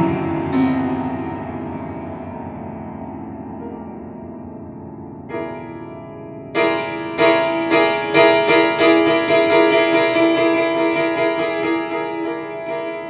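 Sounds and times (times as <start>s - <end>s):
piano notes and chords: 0.0s - 13.0s.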